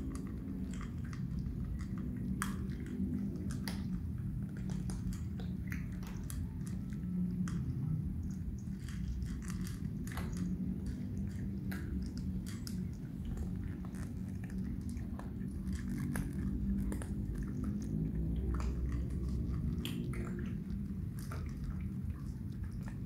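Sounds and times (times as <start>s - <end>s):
cats crunching dry kibble: 0.0s - 23.0s
low steady rumble: 0.0s - 23.0s.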